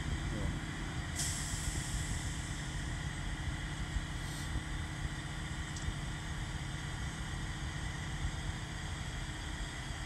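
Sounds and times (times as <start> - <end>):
crane diesel engine running: 0.0 - 10.0.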